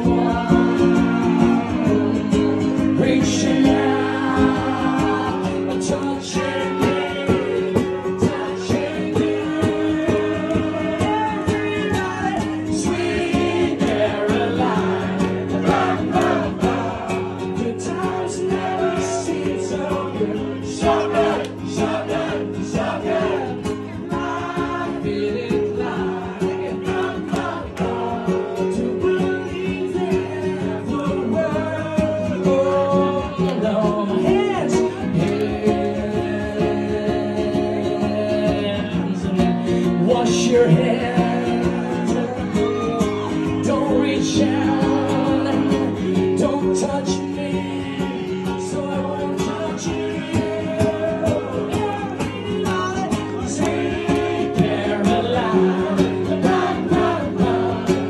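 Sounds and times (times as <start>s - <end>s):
acoustic guitar strumming: 0.0s - 58.0s
man singing: 0.0s - 58.0s.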